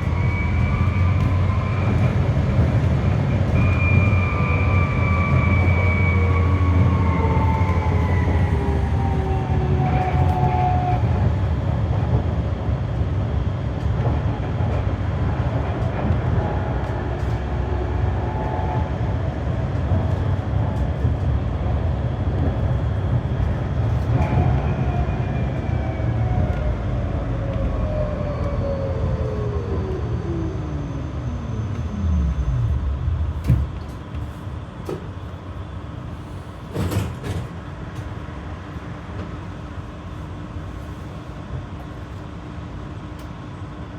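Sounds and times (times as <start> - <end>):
tram wheels rumbling on rail: 0.0 - 43.9.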